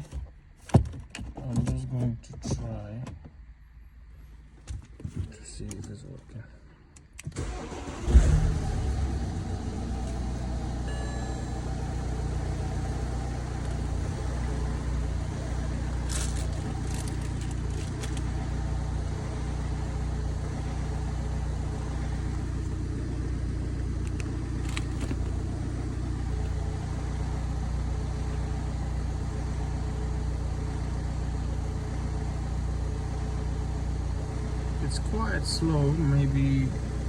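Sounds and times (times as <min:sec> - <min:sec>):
car engine idling: 0:05.4 - 0:37.0.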